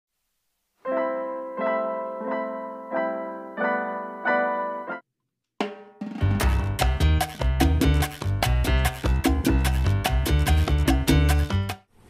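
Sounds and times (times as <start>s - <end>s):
piano chords: 0.8s - 5.0s, 6.2s - 11.8s.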